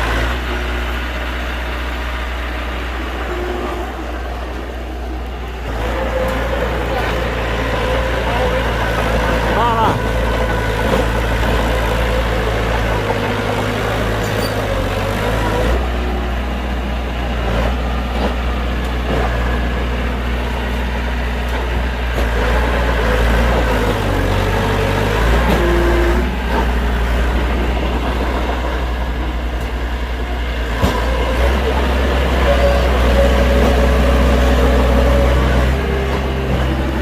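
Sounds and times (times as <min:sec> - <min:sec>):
diesel construction machinery drone: 0:00.0 - 0:37.0.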